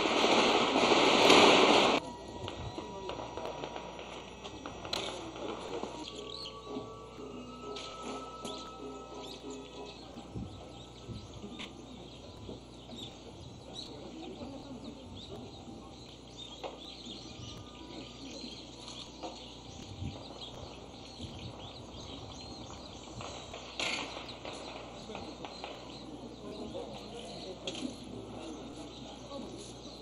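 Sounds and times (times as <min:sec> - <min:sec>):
faint bird chirps: 0:04.6 - 0:30.0.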